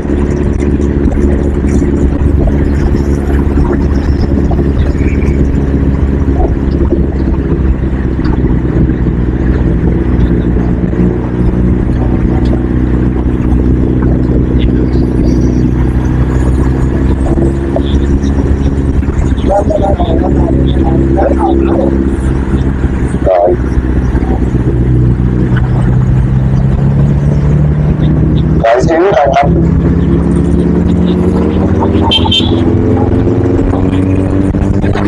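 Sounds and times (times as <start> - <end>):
motor vehicle engine running: 0.0 - 35.0.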